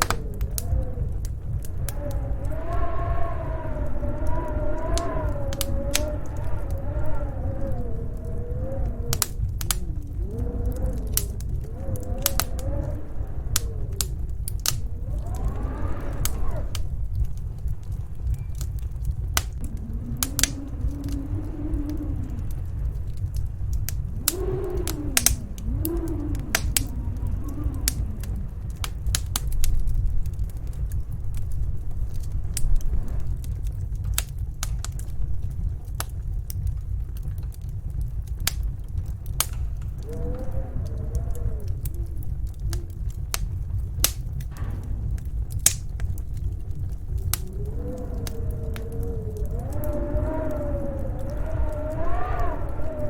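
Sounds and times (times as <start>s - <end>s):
fireplace crackling and popping: 0.0s - 53.0s
storm wind howling: 0.0s - 53.0s.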